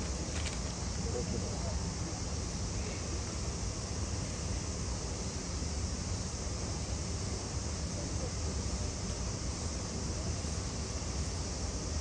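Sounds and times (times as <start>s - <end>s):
even hiss: 0.0s - 12.0s.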